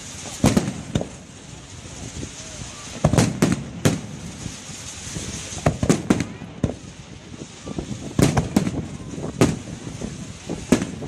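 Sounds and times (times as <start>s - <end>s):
fireworks bangs: 0.0s - 11.0s
steady hiss: 0.0s - 11.0s.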